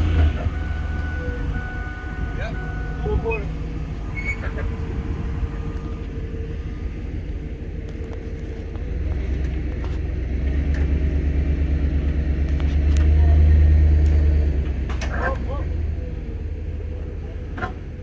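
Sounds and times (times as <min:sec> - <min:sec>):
truck engine running under load: 0:00.0 - 0:18.0.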